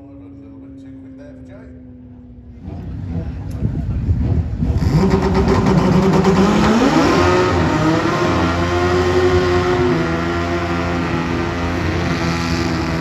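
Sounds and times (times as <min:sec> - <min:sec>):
motorcycle engine at full throttle: 0:00.0 - 0:13.0.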